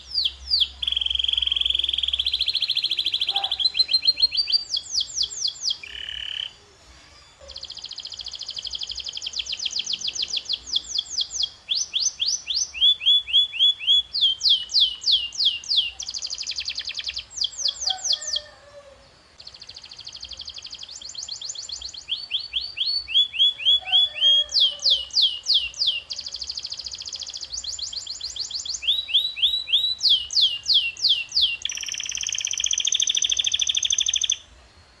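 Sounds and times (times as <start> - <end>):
canary singing: 0.0 - 34.5.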